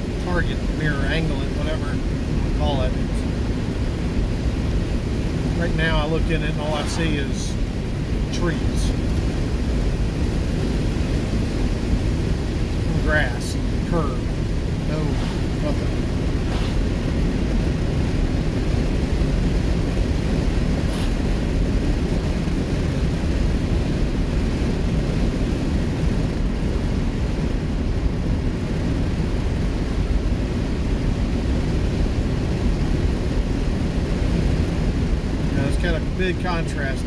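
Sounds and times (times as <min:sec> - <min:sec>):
car engine rumbling: 0:00.0 - 0:37.0
tyre and road noise: 0:00.0 - 0:37.0.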